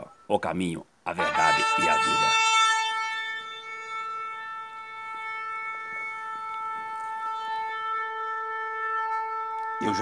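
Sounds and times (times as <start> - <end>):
shofar blast: 1.1 - 10.0.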